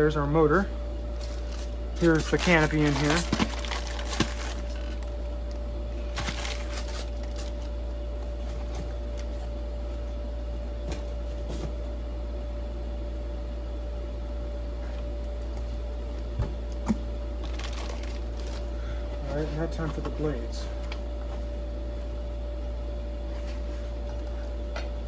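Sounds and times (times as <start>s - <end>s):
low background hum: 0.0s - 25.0s
rustles and clicks of handling: 1.1s - 12.0s, 13.6s - 25.0s.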